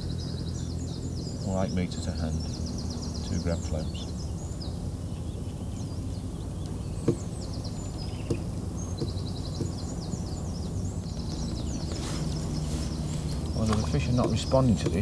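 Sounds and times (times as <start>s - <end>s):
small birds trilling: 0.0s - 15.0s.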